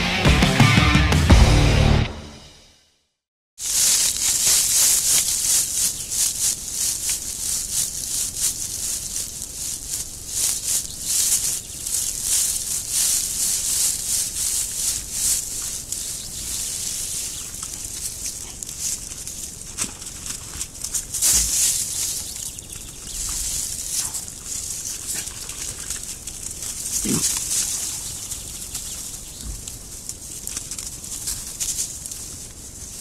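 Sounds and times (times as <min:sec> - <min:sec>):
boars trampling through dead leaves: 0:03.6 - 0:33.0.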